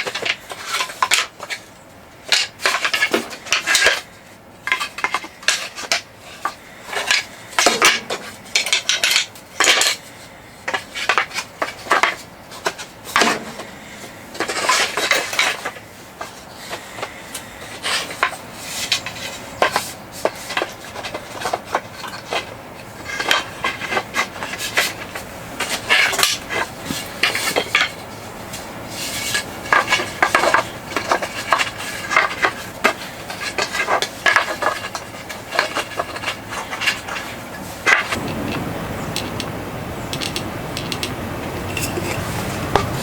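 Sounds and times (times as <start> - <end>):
hard objects clinking and scraping: 0.0 - 39.5, 40.1 - 43.0.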